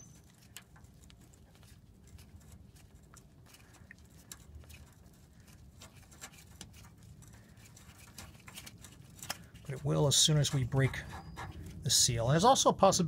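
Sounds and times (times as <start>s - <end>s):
small clicks and scrapes: 0.0s - 11.8s
low steady hum: 0.0s - 13.0s.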